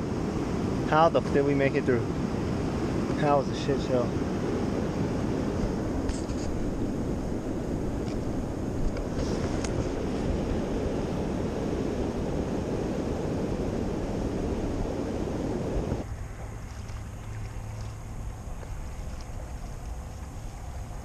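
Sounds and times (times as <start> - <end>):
rushing river water: 0.0 - 21.0
wind on microphone: 0.0 - 21.0.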